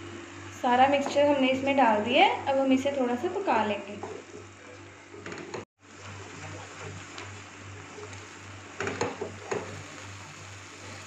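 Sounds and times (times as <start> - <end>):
low sizzle: 0.0 - 11.0.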